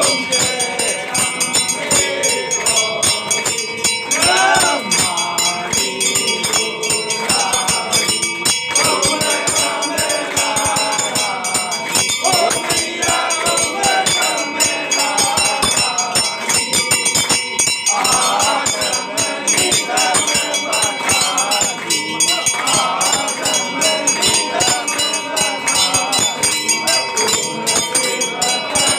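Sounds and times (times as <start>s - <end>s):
group singing in chorus: 0.0s - 28.9s
rhythmic strikes: 0.0s - 28.9s
temple bells ringing: 0.0s - 28.9s.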